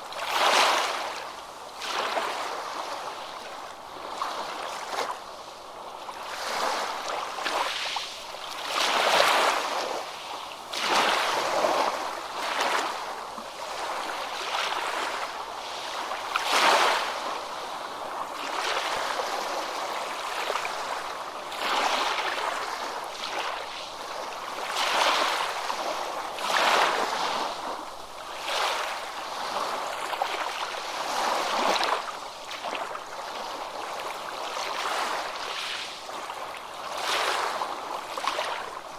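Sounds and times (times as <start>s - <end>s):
ocean waves breaking: 0.1s - 5.3s, 6.0s - 38.9s.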